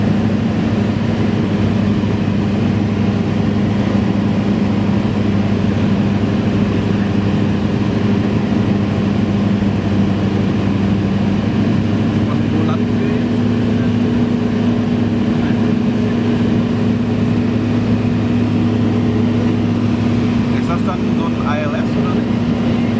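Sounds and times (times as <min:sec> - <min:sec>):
propeller plane engine drone: 0:00.0 - 0:22.9.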